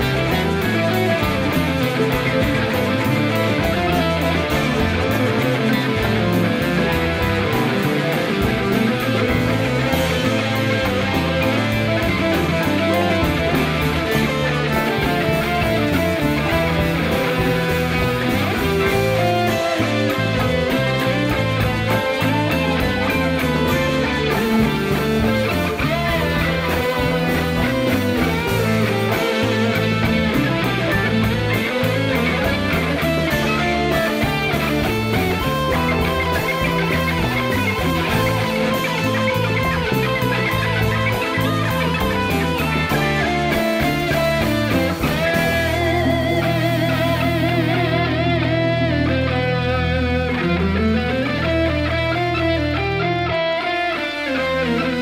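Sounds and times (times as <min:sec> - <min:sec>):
drums: 0:00.0 - 0:55.0
electric guitar: 0:00.0 - 0:55.0
keyboard: 0:00.0 - 0:55.0.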